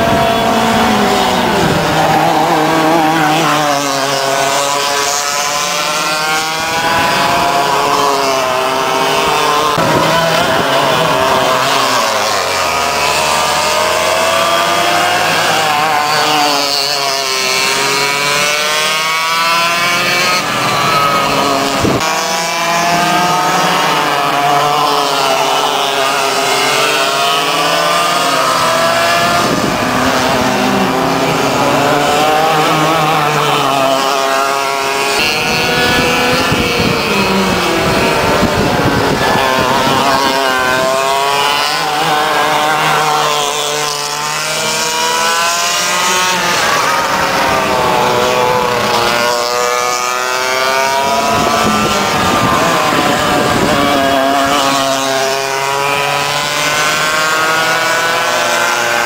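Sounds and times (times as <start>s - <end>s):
go-kart engines revving: 0.0s - 59.0s.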